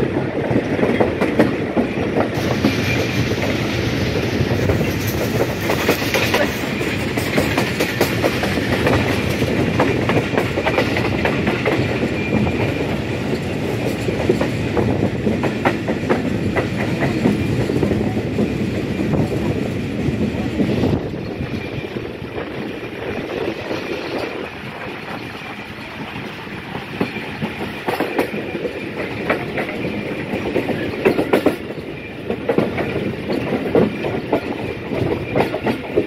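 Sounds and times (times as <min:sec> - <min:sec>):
train rumbling on track: 0:00.0 - 0:36.0.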